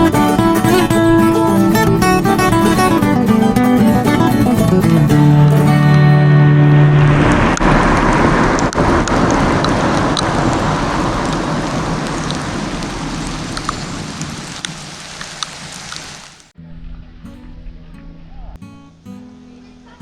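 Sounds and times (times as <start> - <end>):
heavy rain hissing: 0.0 - 16.5.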